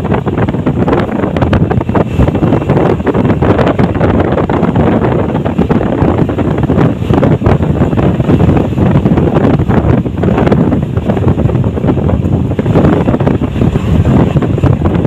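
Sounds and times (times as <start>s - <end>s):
vehicle running noise: 0.0s - 15.0s
wind buffeting microphone: 0.0s - 15.0s.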